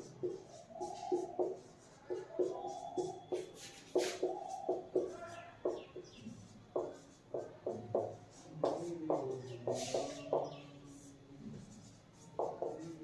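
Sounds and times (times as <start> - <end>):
marker squeaking on whiteboard: 0.0 - 13.0.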